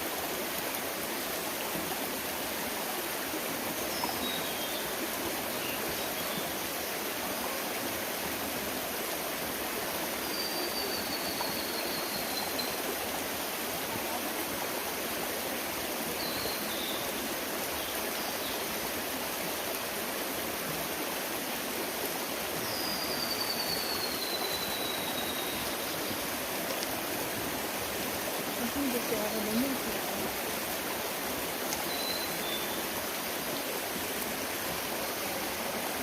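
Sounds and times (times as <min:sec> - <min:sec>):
stream running: 0:00.0 - 0:36.0.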